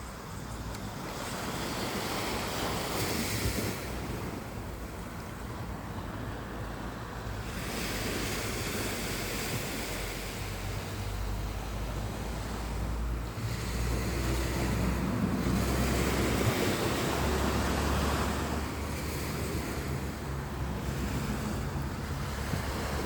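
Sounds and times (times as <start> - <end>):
wind on microphone: 0.0 - 23.0
surf rushing: 0.9 - 23.0.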